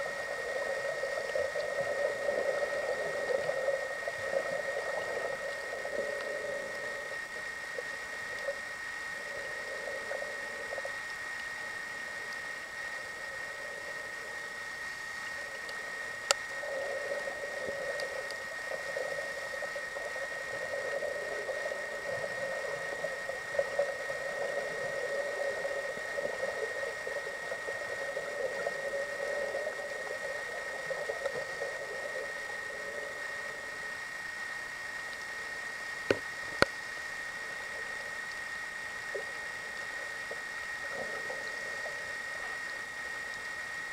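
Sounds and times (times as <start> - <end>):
low underwater rush: 0.0 - 36.4
faint ticks: 0.0 - 43.9
high whine: 0.0 - 43.9.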